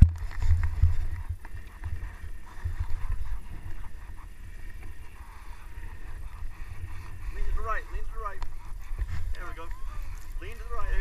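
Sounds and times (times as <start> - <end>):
sled runners sliding over snow: 0.0 - 11.0
wind buffeting microphone: 0.0 - 11.0.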